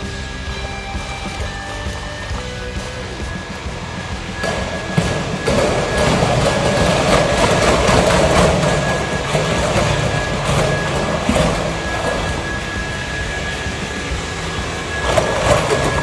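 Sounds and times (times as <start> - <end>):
background music: 0.0 - 16.0
high drive whine: 0.0 - 16.0
robot rattling rolling noise: 1.0 - 16.0.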